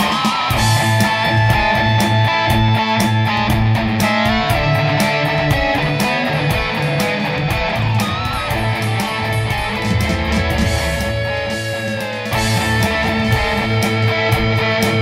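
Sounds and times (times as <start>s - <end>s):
guitar music with steady beat: 0.0s - 15.0s.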